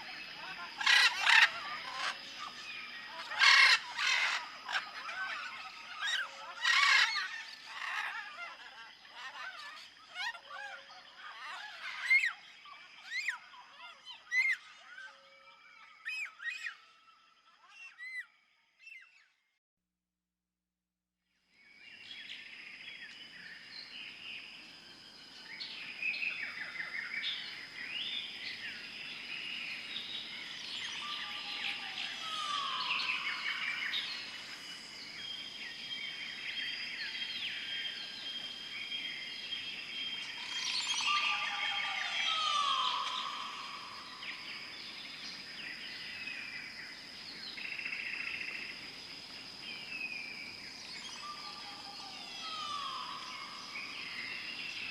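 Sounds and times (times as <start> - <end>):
birds singing and calling: 0.0 - 19.4, 21.9 - 54.9.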